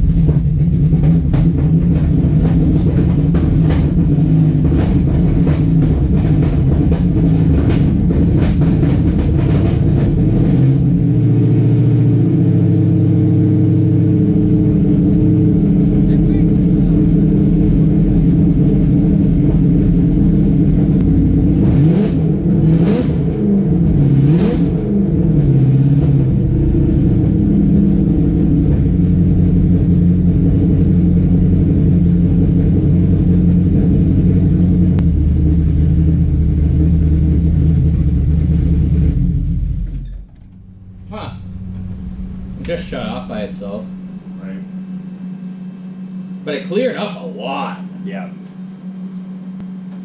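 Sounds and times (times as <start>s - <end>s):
car engine revving and idling: 0.0s - 50.0s.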